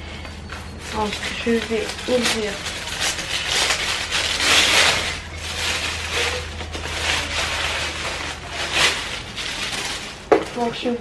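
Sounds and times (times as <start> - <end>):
tissue paper rustling: 0.5 - 11.0.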